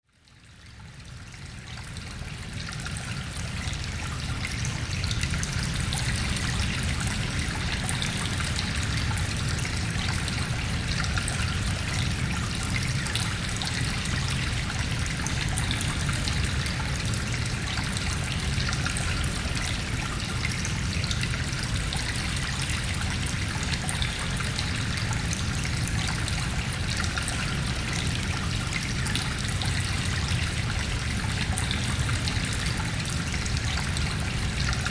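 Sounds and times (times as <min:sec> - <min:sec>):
water trickling in a cave: 0:00.0 - 0:34.9.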